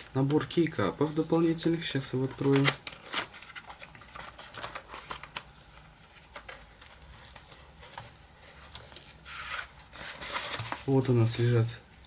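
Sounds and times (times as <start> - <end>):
package rustling: 1.5 - 11.5.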